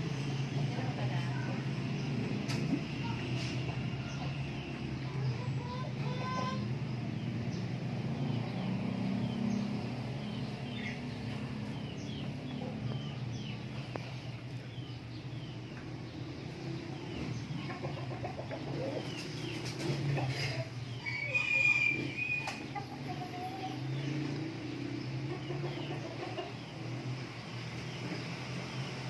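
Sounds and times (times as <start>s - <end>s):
chickens clucking and chirping: 0.0s - 29.0s.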